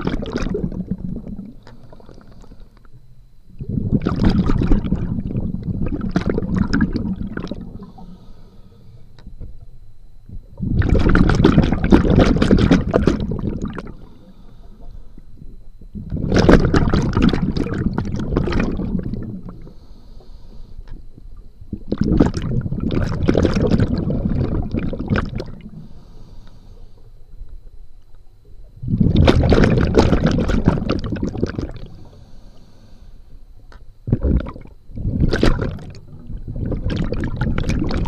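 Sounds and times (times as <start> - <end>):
exhaled bubbles underwater: 0.0 - 8.3, 9.1 - 20.0, 20.9 - 26.0, 27.3 - 32.4, 33.6 - 38.0
faint regulator hiss: 0.0 - 11.1, 12.3 - 22.9, 23.9 - 29.2, 30.5 - 37.6.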